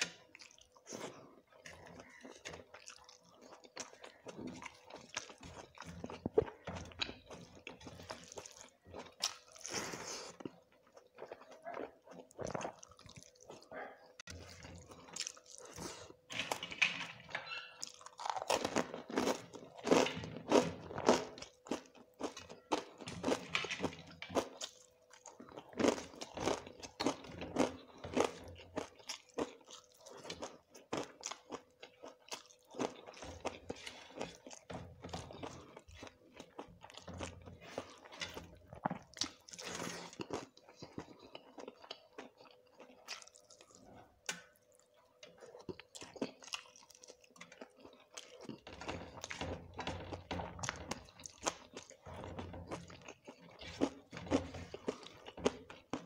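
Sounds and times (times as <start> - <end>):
chewing and crunching rice: 0.0 - 56.0.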